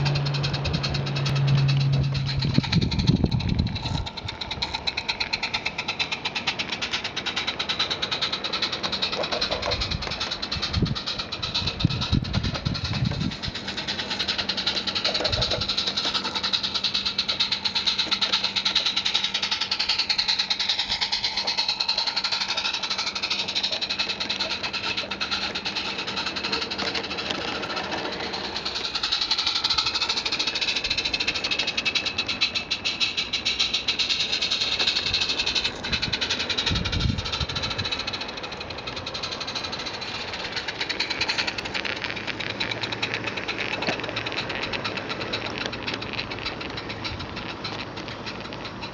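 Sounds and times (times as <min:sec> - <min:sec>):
model train clattering on track: 0:00.0 - 0:48.9.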